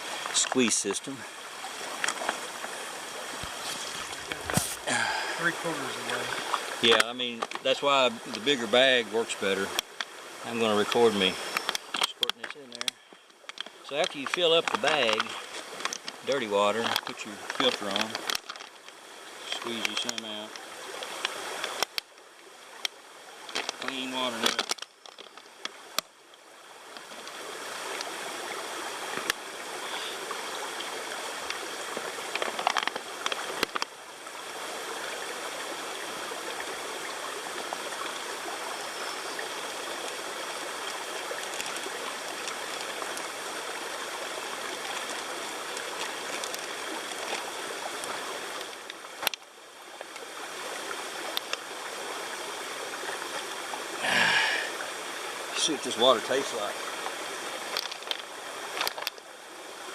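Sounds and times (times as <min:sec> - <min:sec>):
creek flowing over rocks: 0:00.0 - 0:59.9.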